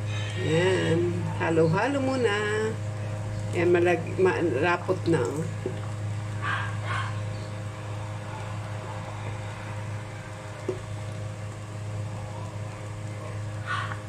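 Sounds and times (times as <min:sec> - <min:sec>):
low hum with hiss: 0:00.0 - 0:14.0.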